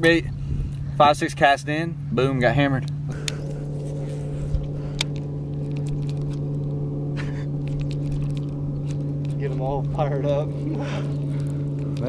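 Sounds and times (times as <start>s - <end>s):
boat motor hum: 0.0s - 12.0s.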